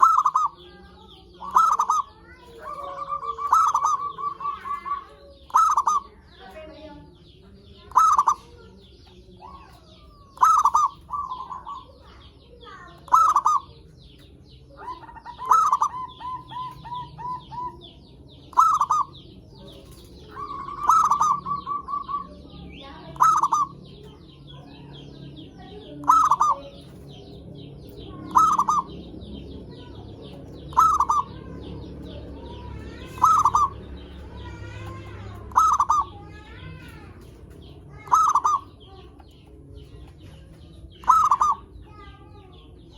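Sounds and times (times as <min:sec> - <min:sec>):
dove cooing: 0:00.0 - 0:06.8, 0:07.7 - 0:08.7, 0:09.4 - 0:42.9
small birds chirping: 0:00.0 - 0:42.9.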